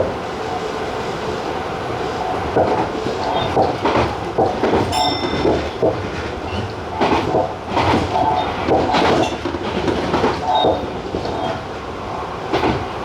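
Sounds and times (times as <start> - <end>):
train rolling rumble: 0.0 - 13.0
wheel clatter over rail joints: 2.1 - 13.0.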